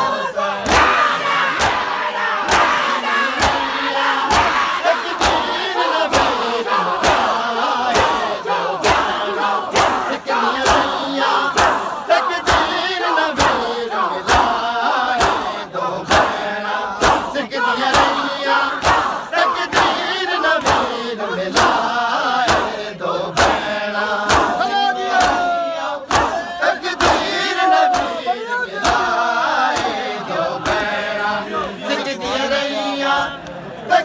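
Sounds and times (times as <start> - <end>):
group of men chanting: 0.0 - 34.0.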